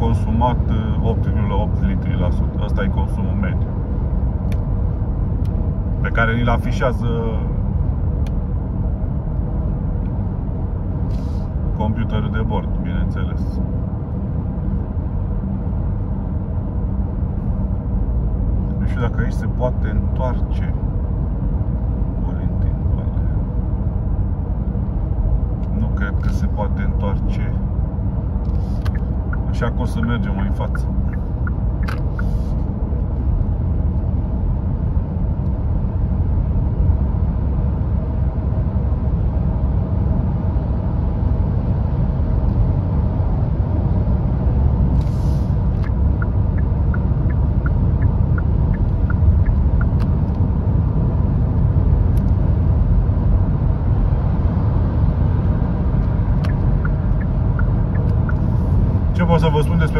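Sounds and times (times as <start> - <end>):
car cabin road and wind rumble: 0.0 - 59.9.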